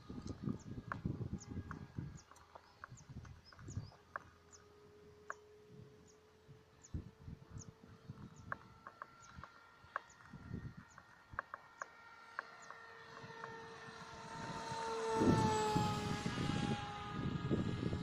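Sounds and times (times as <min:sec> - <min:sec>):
rc plane motor whining: 0:00.0 - 0:18.0.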